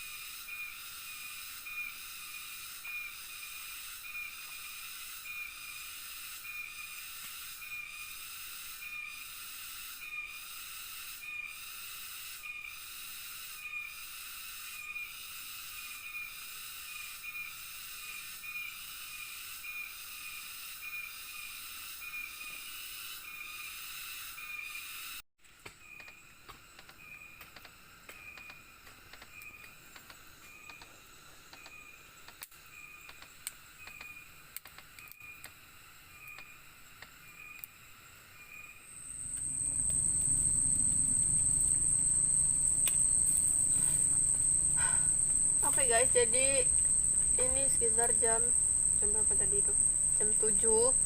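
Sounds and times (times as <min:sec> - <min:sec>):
short high insect chirp: 0:00.0 - 0:25.2, 0:25.8 - 0:51.0
insect chorus hiss: 0:00.0 - 0:51.0.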